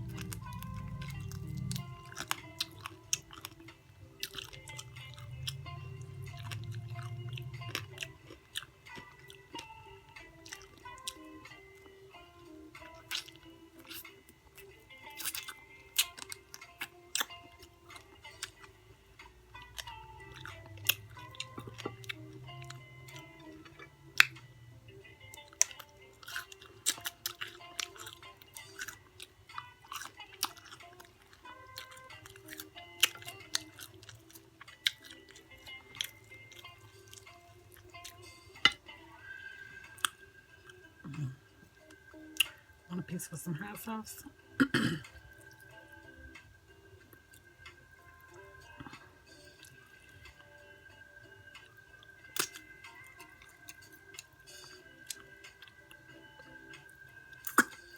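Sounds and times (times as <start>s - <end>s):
person chewing crunchy fried chicken: 0.0s - 11.9s, 12.8s - 24.4s, 25.1s - 42.6s, 47.1s - 57.9s
faint background music: 0.0s - 57.9s.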